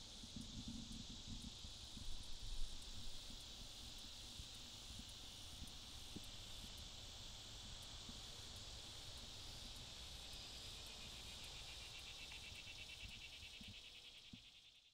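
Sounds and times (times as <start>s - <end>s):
insects chirring: 0.1s - 14.9s.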